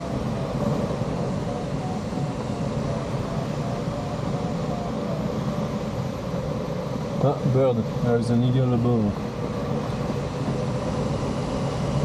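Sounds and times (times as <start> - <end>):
glider cockpit air rush: 0.0 - 12.0.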